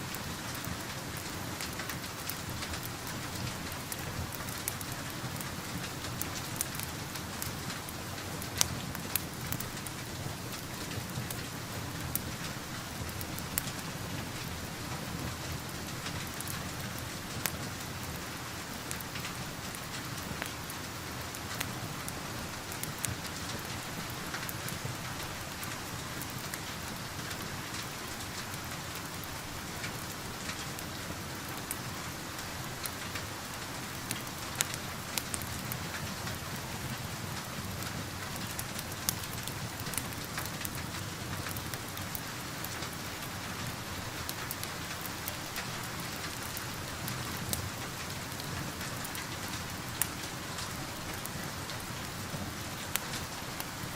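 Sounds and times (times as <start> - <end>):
steady rain heard indoors: 0.0 - 53.9
wood fire crackling: 0.0 - 53.9.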